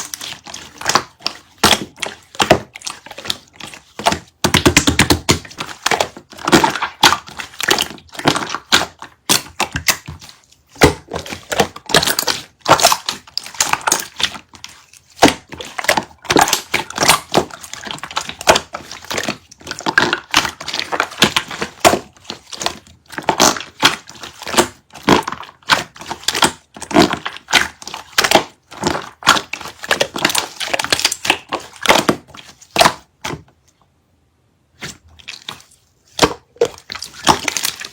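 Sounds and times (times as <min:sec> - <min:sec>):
slime squished by hand: 0:00.0 - 0:33.4, 0:34.8 - 0:37.9.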